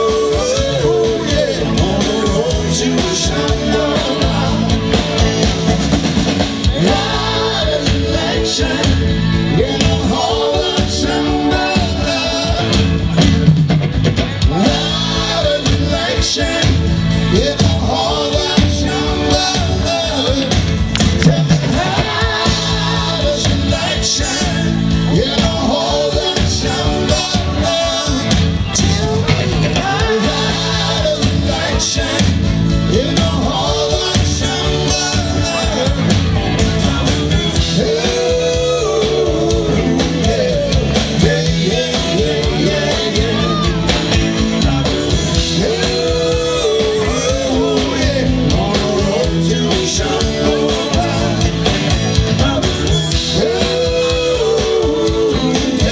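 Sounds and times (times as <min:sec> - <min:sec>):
person singing: 0:00.0 - 0:13.5, 0:14.4 - 0:55.9
electric guitar: 0:00.0 - 0:55.9
live rock band playing: 0:00.0 - 0:55.9.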